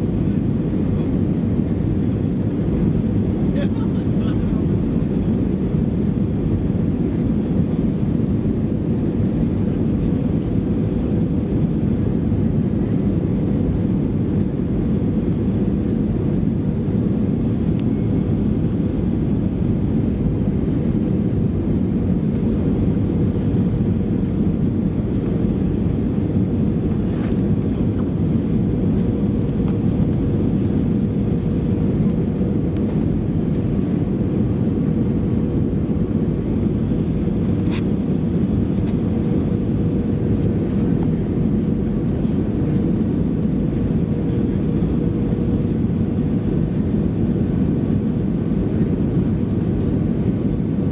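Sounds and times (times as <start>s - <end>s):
airplane cabin airflow and engine drone: 0.0s - 50.9s.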